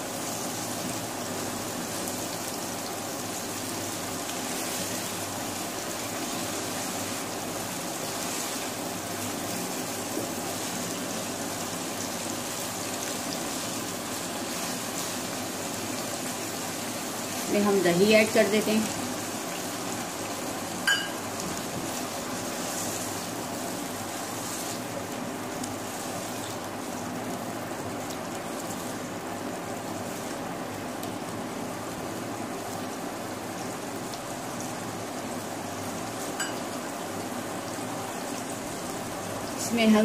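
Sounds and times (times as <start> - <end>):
chicken sizzling in a pan: 0.0 - 40.0.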